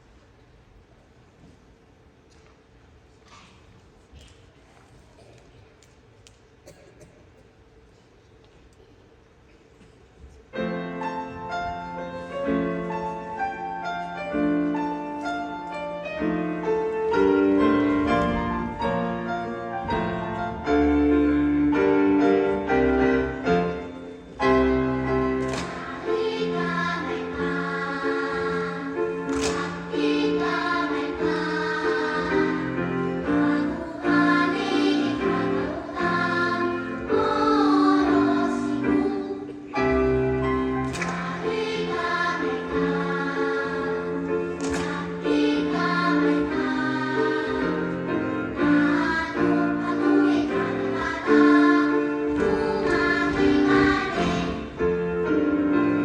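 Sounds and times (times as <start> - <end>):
children's choir singing: 10.6 - 56.0.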